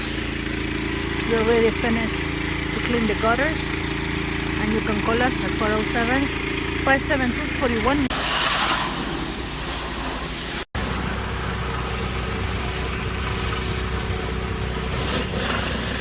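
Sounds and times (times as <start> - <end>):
pressure washer running: 0.0 - 16.0.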